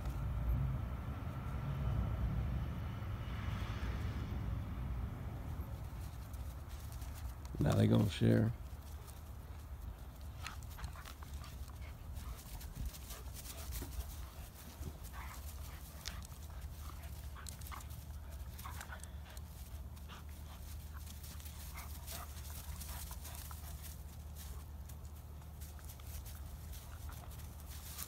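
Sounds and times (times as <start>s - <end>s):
steady low rumble: 0.0s - 28.0s
scuffling on dry grass: 5.4s - 28.0s.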